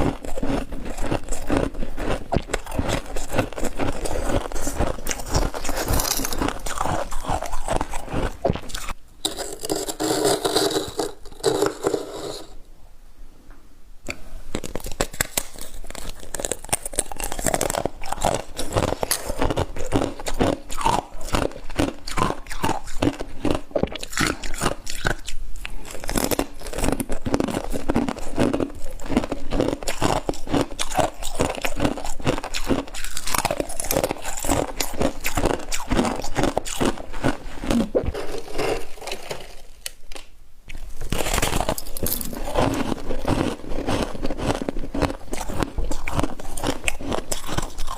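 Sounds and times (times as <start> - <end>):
chewing crunchy ice: 0.0 - 12.6, 14.5 - 47.9.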